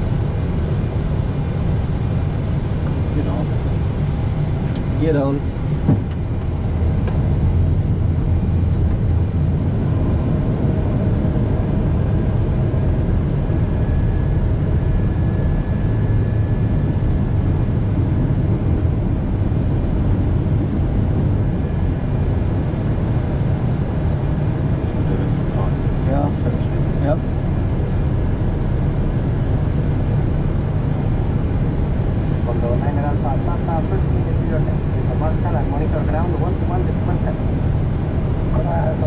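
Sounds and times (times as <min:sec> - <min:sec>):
airliner cockpit rumble: 0:00.0 - 0:39.0.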